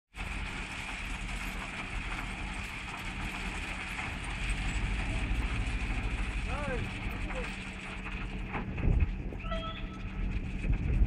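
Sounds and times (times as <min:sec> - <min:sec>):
train wagons rumbling: 0:00.1 - 0:11.0
wheels on rails: 0:00.1 - 0:11.0.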